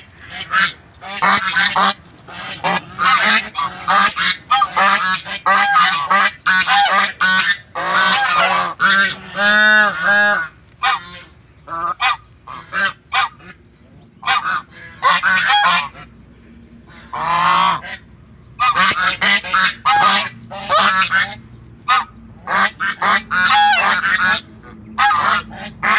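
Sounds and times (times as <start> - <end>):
geese honking: 0.0 - 25.9.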